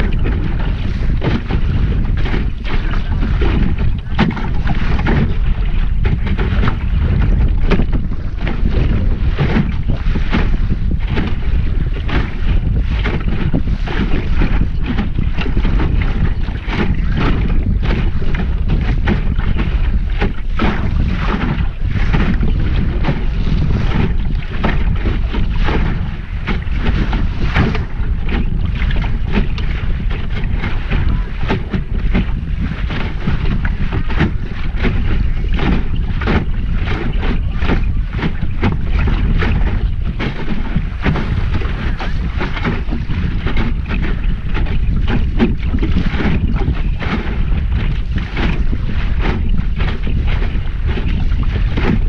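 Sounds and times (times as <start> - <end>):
water splashing against hull: 0.0 - 52.0
wind noise on microphone: 0.0 - 52.0.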